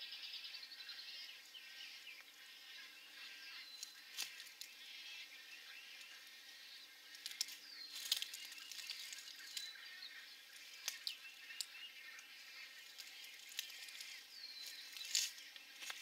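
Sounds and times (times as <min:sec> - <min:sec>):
birds chirping in a colony: 0:00.0 - 0:16.0.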